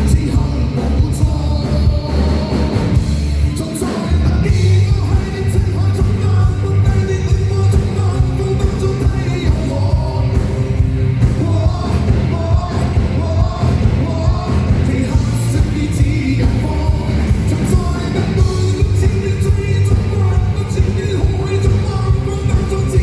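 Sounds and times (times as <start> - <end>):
amplified pop music with heavy bass: 0.0 - 23.0
live singing: 0.0 - 23.0.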